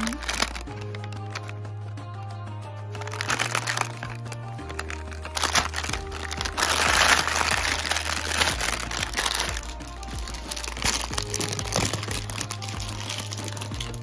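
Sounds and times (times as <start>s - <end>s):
plastic wrappers crinkling: 0.0s - 1.6s, 2.9s - 14.0s
background music with bass line: 0.0s - 14.0s.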